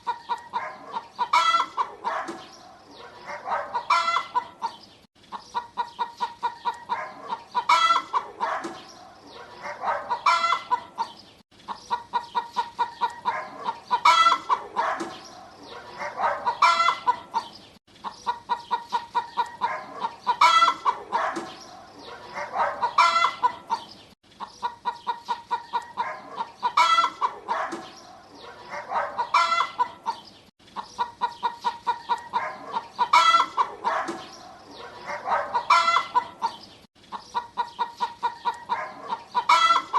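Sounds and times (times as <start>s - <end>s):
hen clucking and cackling: 0.0s - 39.9s.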